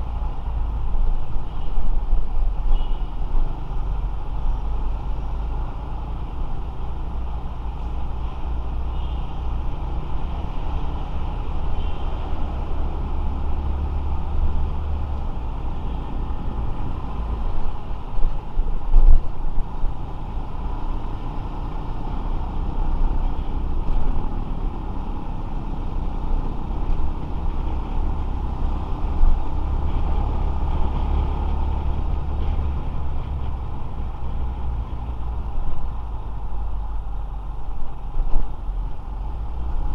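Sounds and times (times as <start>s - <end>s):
motorcycle engine and road noise: 0.0s - 39.9s.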